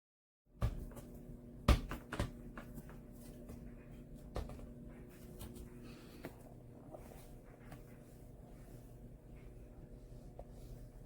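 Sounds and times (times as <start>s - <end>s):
faint steady hum: 0.5s - 11.0s.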